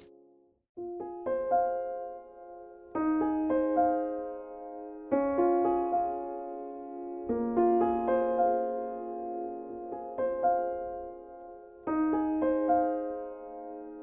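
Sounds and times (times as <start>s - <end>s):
slow solo piano chords: 0.8s - 14.0s.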